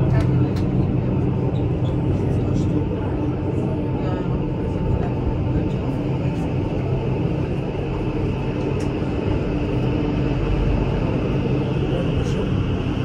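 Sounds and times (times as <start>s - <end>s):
railcar rumbling: 0.0s - 13.0s.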